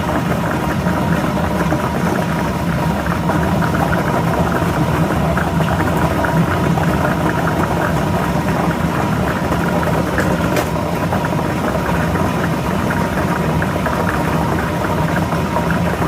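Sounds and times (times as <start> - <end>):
motor hum: 0.0 - 16.0.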